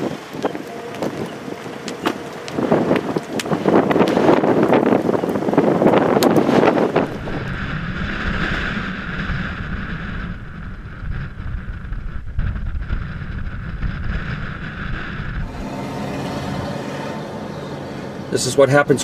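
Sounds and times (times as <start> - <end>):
wind blowing across microphone: 0.0 - 19.0.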